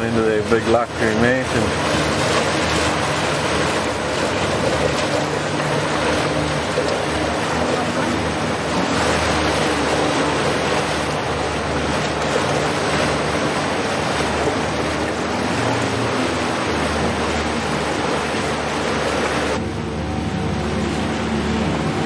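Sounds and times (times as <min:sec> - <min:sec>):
low engine hum: 0:00.0 - 0:22.0
water rushing: 0:00.0 - 0:22.0
wind: 0:00.0 - 0:22.0.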